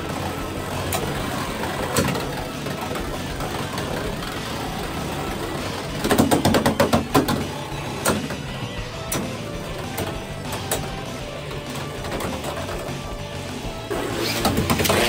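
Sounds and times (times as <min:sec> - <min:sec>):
spinning tops whirring: 0:00.0 - 0:15.0.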